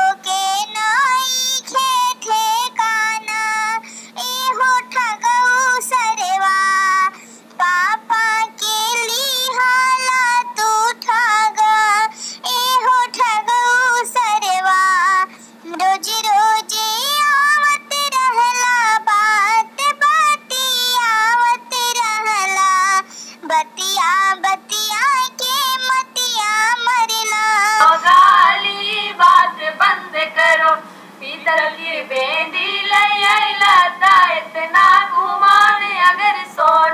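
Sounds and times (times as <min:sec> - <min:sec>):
high-pitched folk singing: 0:00.0 - 0:36.9.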